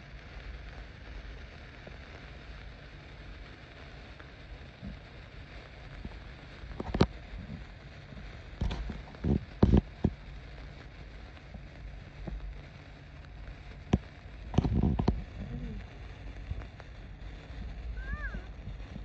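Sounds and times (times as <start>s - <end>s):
sparklers fizzing and crackling: 0.0s - 19.0s.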